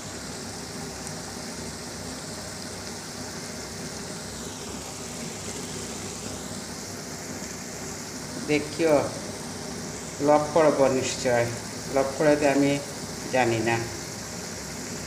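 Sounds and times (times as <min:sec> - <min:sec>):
curry sizzling and bubbling: 0:00.0 - 0:15.0.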